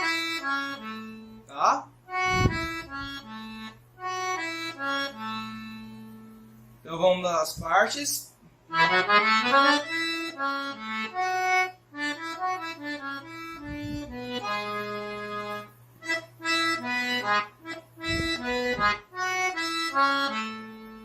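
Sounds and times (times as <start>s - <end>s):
accordion melody: 0.0s - 6.8s, 8.7s - 21.0s.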